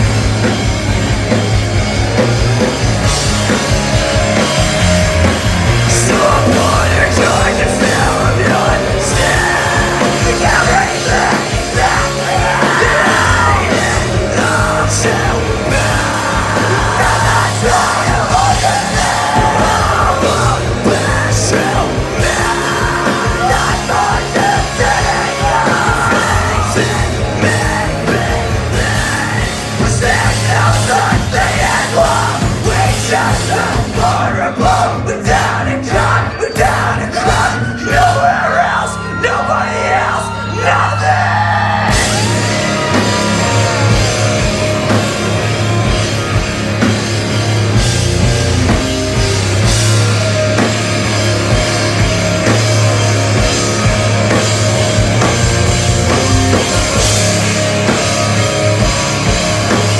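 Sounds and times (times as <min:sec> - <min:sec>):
live rock band playing: 0:00.0 - 0:59.9
shouted lead vocals: 0:00.0 - 0:59.9.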